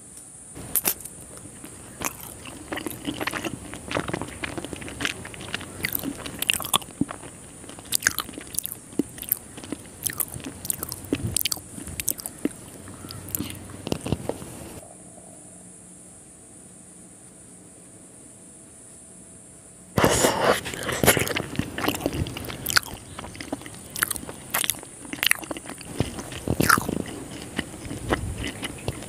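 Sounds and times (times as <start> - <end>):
steady high hiss: 0.0 - 28.8
person chewing: 0.6 - 14.8, 20.0 - 29.0.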